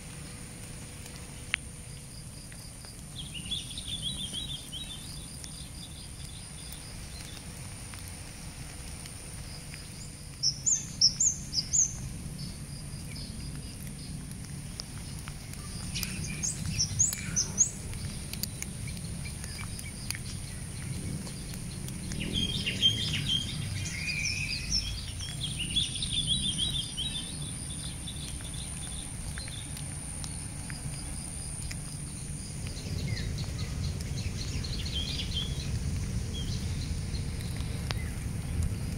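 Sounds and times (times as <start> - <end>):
birds chirping: 0.1 - 8.1, 9.3 - 38.2.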